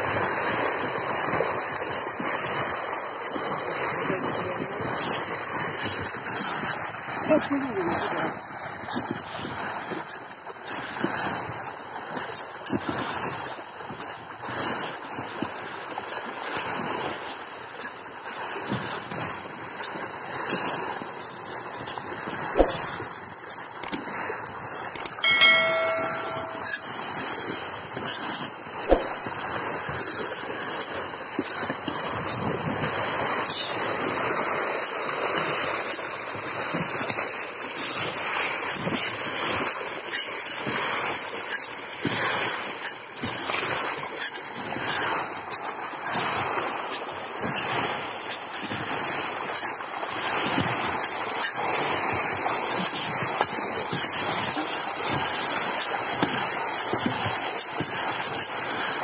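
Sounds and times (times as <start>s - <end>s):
fish splashing at water surface: 0.0s - 59.0s.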